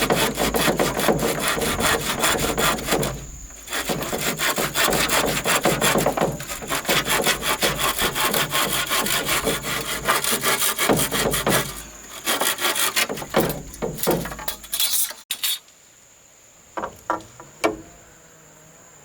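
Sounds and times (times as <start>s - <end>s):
hand saw cutting wood: 0.0s - 15.6s.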